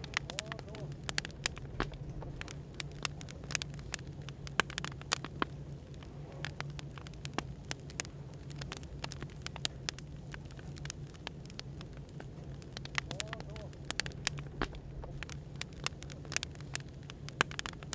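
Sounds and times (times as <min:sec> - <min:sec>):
low background hum: 0:00.0 - 0:17.9
wood fire crackling: 0:00.0 - 0:17.9.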